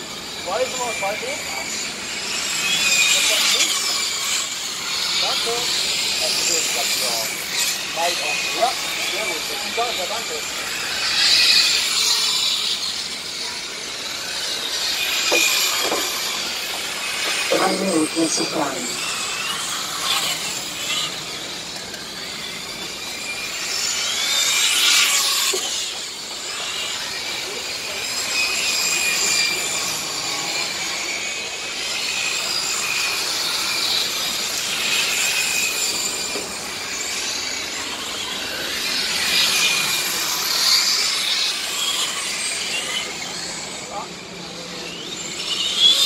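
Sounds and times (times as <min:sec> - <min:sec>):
model car motors whining: 0:00.0 - 0:46.0.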